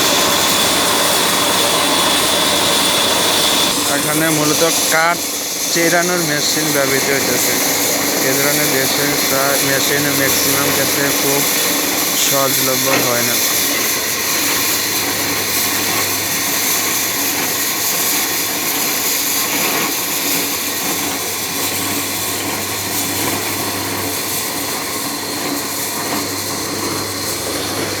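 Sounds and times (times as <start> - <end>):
wood-sawing machine running: 0.0 - 28.0.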